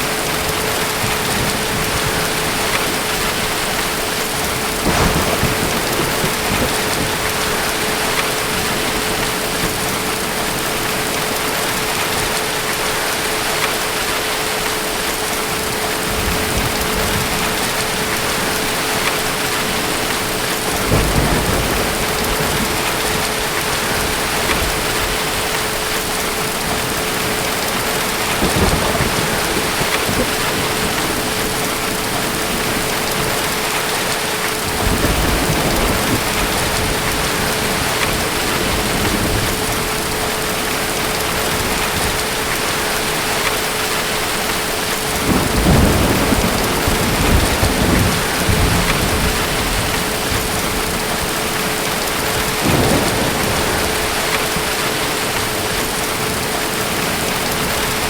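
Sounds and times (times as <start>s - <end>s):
distant thunder rumbling: 0.0s - 12.4s, 15.6s - 58.0s
steady rain: 0.0s - 58.0s.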